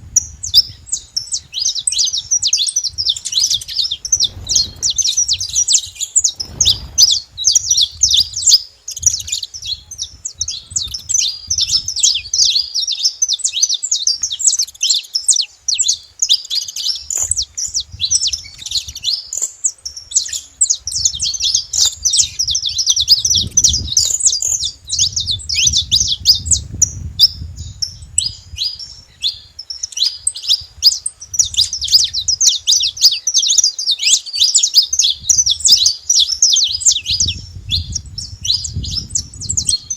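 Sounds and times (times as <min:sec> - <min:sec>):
finches chirping: 0:00.1 - 0:39.9.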